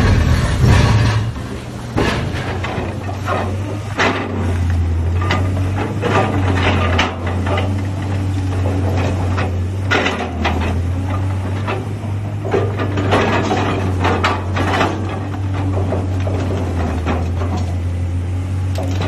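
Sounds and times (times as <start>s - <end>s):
excavator diesel engine hum: 0.0s - 19.0s.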